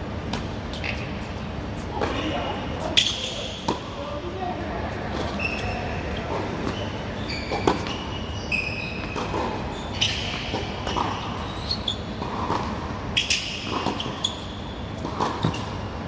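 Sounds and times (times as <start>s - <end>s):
tennis shoes squeaking: 0.2s - 4.1s, 5.0s - 16.0s.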